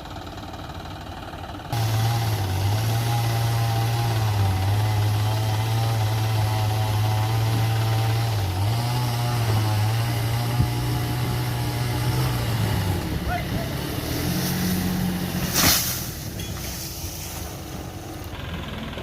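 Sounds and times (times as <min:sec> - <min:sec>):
petrol engine running: 0:00.0 - 0:19.0.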